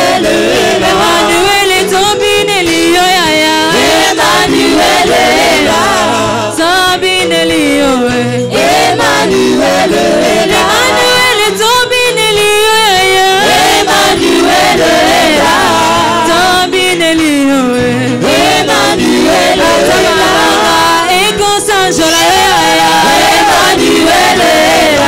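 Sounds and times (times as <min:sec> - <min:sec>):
choir singing gospel: 0:00.0 - 0:12.0, 0:12.8 - 0:25.0
electric bass: 0:00.0 - 0:12.4, 0:13.3 - 0:25.0
guitar: 0:00.0 - 0:25.0.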